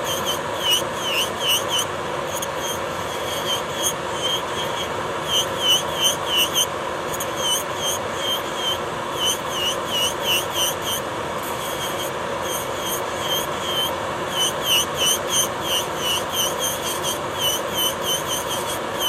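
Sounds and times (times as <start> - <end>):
bit squeaking on nail: 0.0 - 19.0
electric nail drill grinding: 0.0 - 19.0.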